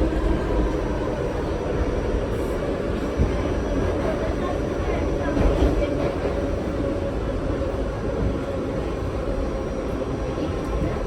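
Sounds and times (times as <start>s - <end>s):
subway car rumbling on tracks: 0.0s - 11.0s.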